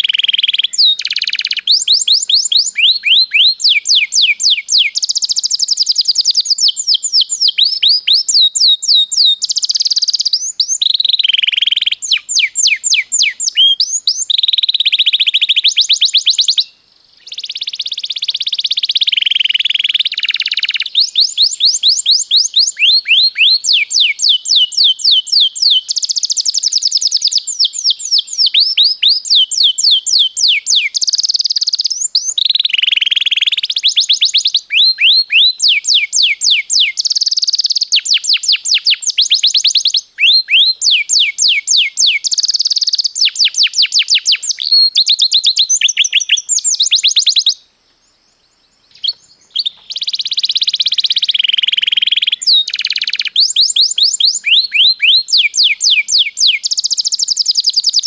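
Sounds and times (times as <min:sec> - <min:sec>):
canary singing: 0:00.0 - 0:47.6, 0:48.9 - 0:58.0.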